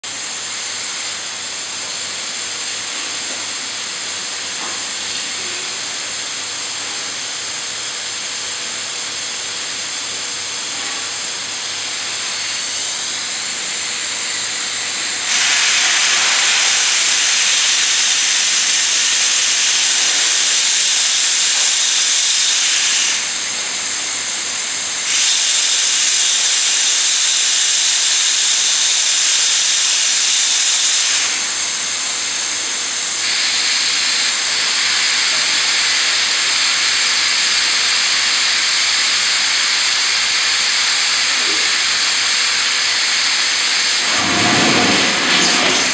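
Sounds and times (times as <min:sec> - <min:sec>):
steam hissing: 0:00.1 - 0:45.9.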